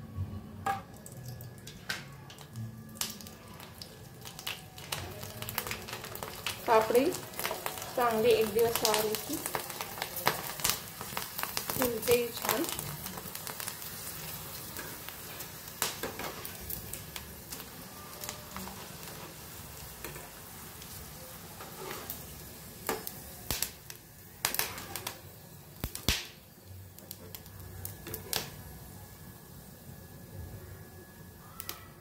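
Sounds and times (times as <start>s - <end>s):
frying in hot oil sizzle: 0.8s - 32.0s.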